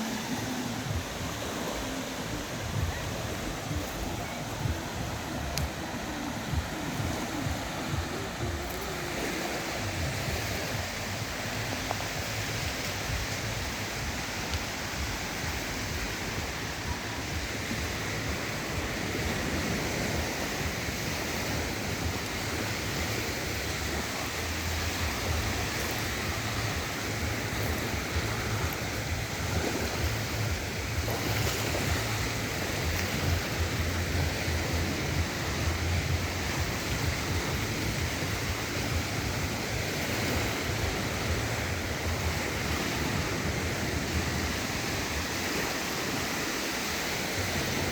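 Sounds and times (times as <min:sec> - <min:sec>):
sea waves washing onto beach: 0:00.0 - 0:47.9
wind buffeting microphone: 0:00.0 - 0:47.9.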